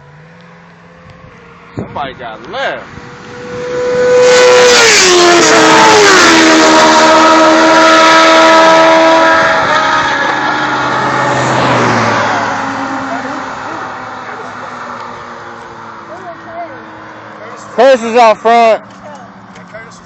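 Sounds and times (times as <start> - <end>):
sport motorcycles passing at high speed: 0.0 - 20.0.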